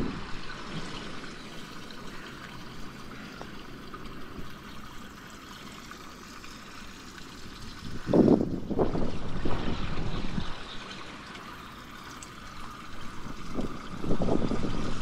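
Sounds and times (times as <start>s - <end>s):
running water trickling: 0.0s - 15.0s.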